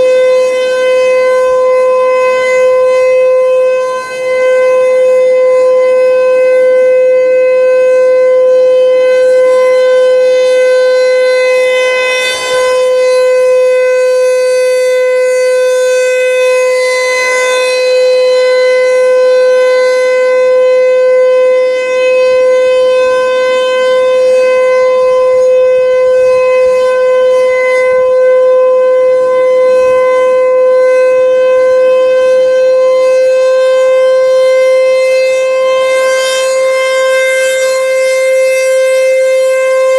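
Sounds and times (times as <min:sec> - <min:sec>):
rotating siren steady tone: 0:00.0 - 0:39.9.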